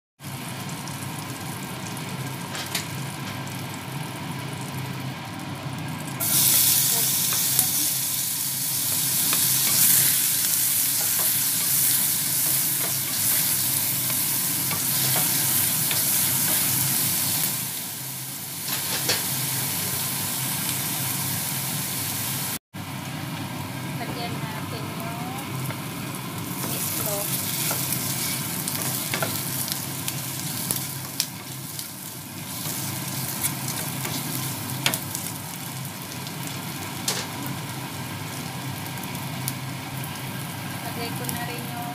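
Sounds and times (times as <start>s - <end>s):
food sizzling in hot oil: 0.2s - 41.9s.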